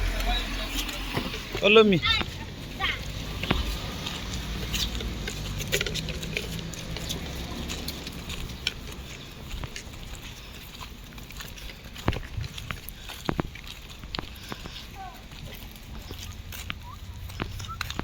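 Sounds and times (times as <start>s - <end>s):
footsteps walking: 0.0s - 18.0s.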